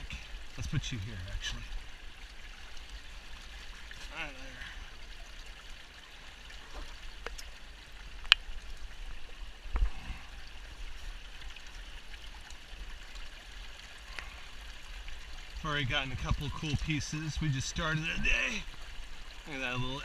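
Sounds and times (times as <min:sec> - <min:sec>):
creek water over stones: 0:00.0 - 0:20.0.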